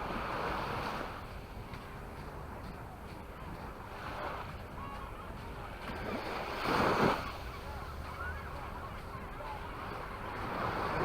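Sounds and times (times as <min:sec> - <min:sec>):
sea waves washing on beach: 0:00.0 - 0:11.0.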